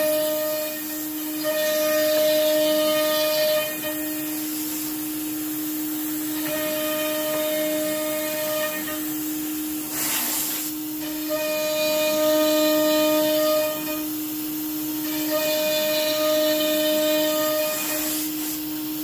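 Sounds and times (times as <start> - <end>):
compressed air hissing: 0.0 - 19.0
router spindle whining: 0.0 - 19.0.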